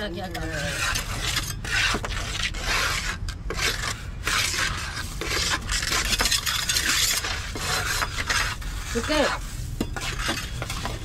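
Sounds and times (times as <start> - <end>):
trowel scraping wet concrete: 0.0 - 11.0.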